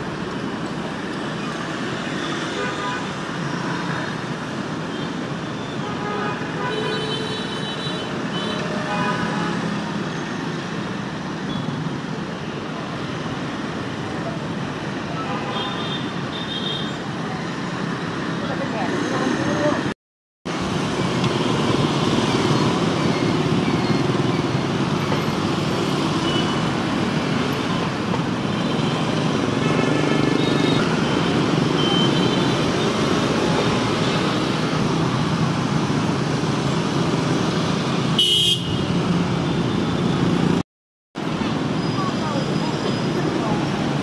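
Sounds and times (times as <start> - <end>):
street traffic rumble: 0.0 - 40.6, 41.2 - 44.0.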